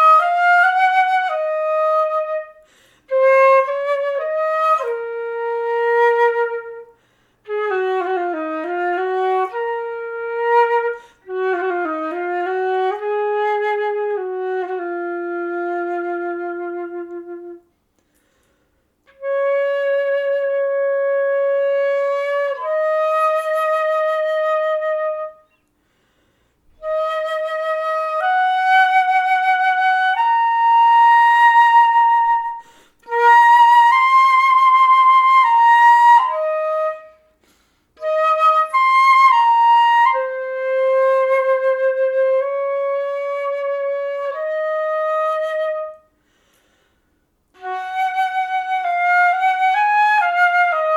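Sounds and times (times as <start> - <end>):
solo flute playing long notes: 0.0 - 17.8, 19.0 - 25.6, 26.8 - 37.4, 38.0 - 46.2, 47.6 - 50.9.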